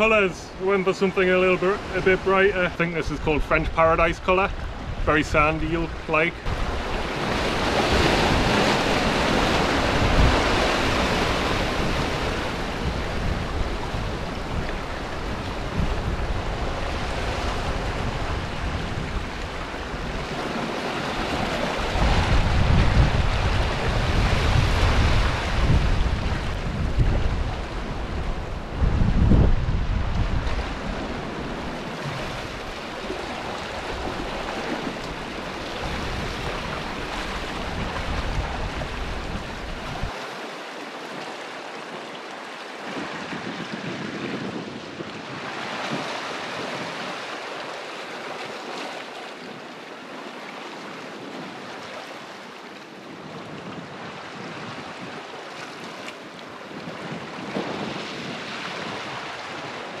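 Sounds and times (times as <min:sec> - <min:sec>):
wind buffeting microphone: 0:00.0 - 0:40.2, 0:42.8 - 0:47.5, 0:52.9 - 1:00.0
waves washing over rocks: 0:00.0 - 1:00.0.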